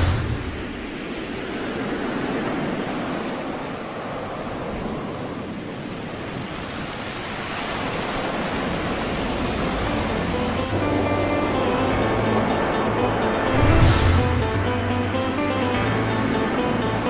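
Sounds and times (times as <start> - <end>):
storm waves breaking on ship bow: 0.0 - 17.0
wind: 0.0 - 17.0.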